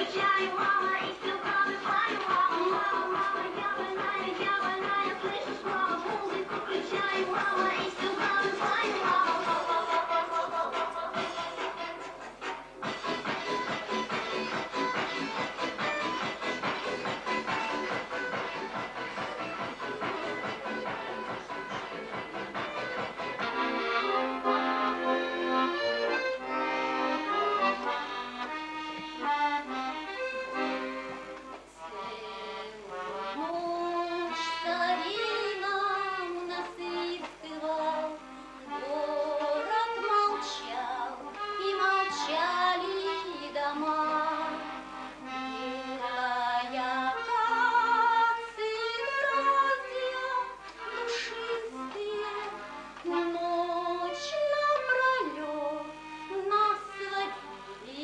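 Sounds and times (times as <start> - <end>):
accordion tune: 0.0 - 58.0.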